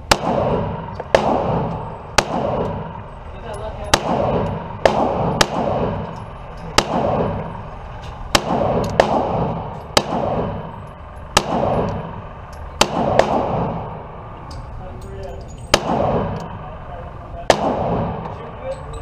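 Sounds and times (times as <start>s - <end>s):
gunshots with ringing echo: 0.0s - 14.6s, 15.4s - 18.7s.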